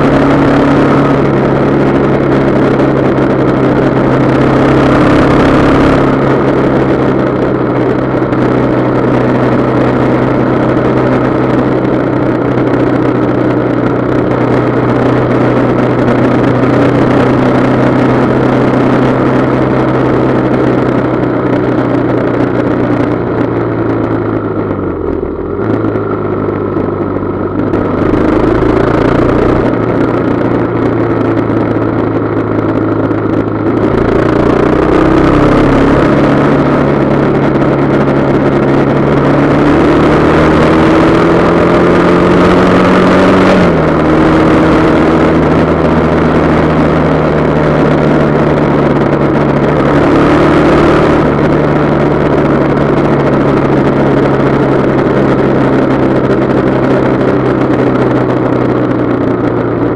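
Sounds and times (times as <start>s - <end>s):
motorcycle engine: 0.0s - 59.9s
wind noise: 0.0s - 59.9s.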